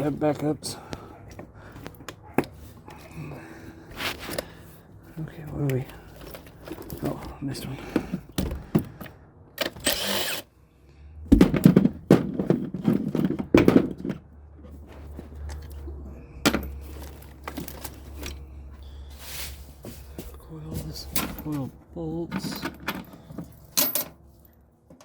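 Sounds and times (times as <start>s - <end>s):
hand tools clunking and rattling: 0.0s - 10.0s, 11.3s - 18.5s, 19.8s - 25.0s.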